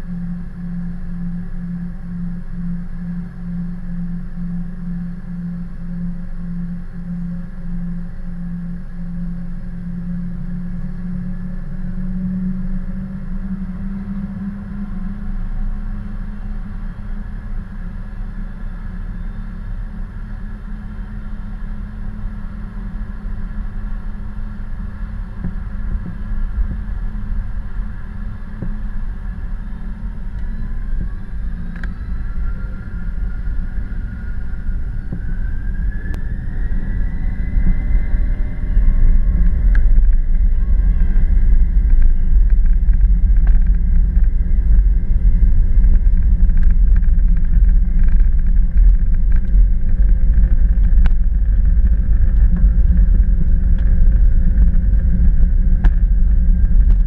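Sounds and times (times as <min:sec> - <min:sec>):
jet engine whine spooling up: 0:00.0 - 0:57.0
jet engines droning: 0:00.0 - 0:57.0.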